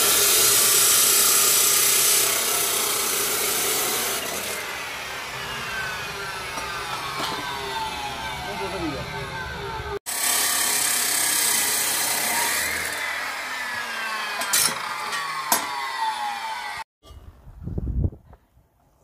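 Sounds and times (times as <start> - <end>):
chop saw cutting steel: 0.0 - 16.9.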